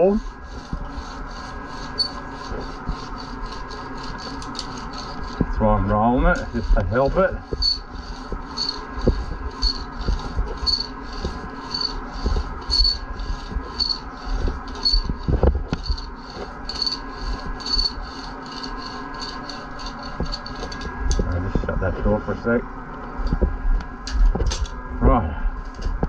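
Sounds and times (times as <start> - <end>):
metal roller rattling and scraping: 0.0 - 23.5, 24.1 - 24.8.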